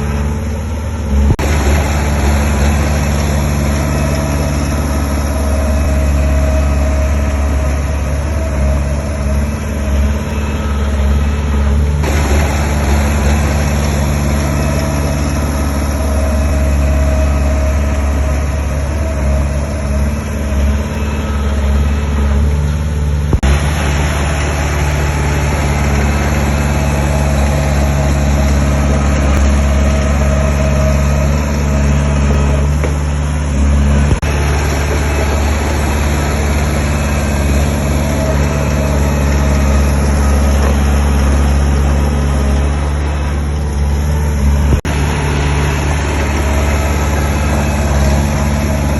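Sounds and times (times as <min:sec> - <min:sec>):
diesel engine of heavy machinery: 0:00.0 - 0:48.9.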